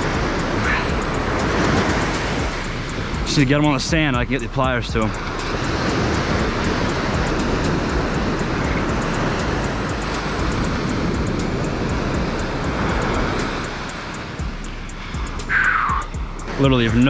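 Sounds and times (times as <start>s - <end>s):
surf washing up beach: 0.0s - 17.0s
wind rumbling on microphone: 0.0s - 17.0s.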